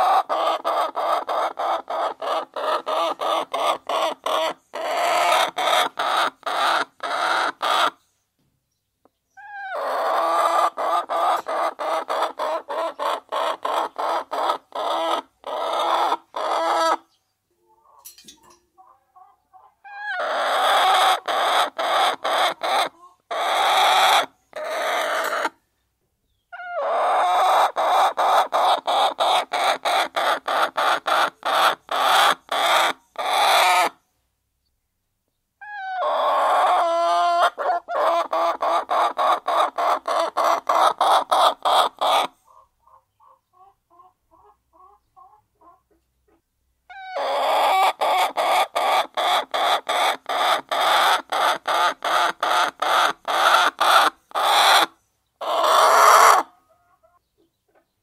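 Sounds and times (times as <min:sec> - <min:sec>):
hens clucking: 0:00.0 - 0:08.0, 0:09.4 - 0:25.6, 0:26.5 - 0:34.0, 0:35.6 - 0:58.0.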